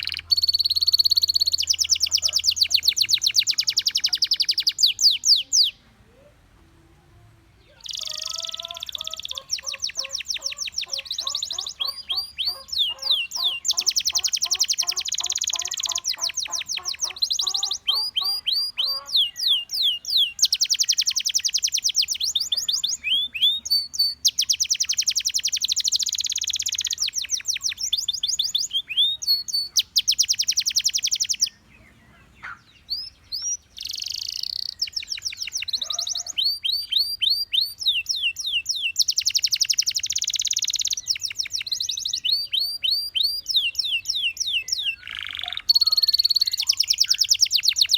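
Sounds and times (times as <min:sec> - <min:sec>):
canary singing trills: 0:00.0 - 0:06.5, 0:07.5 - 0:47.9.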